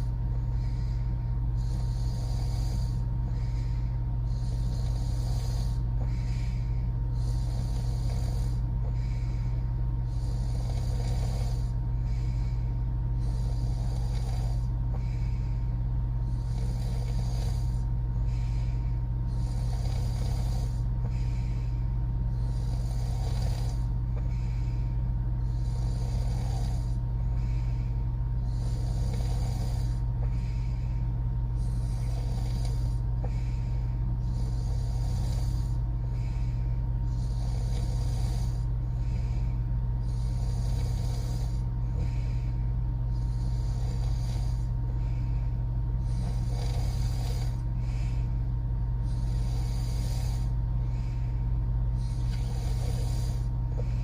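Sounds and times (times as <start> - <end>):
steady low hum: 0.0 - 54.0
woman snoring: 0.0 - 54.0.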